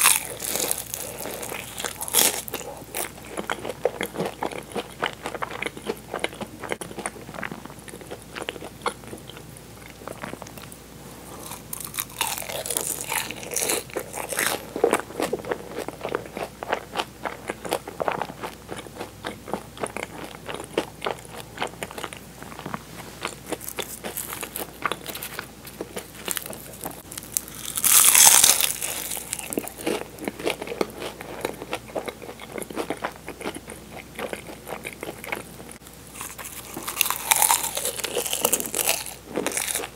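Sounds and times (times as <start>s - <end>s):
pastry crunching: 0.0s - 9.0s, 11.4s - 18.9s, 19.5s - 35.4s, 36.1s - 39.9s.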